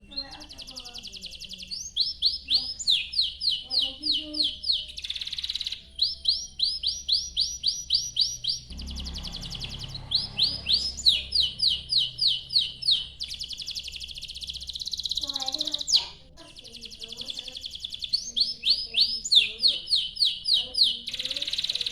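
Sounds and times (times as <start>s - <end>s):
canary singing: 0.0s - 21.9s.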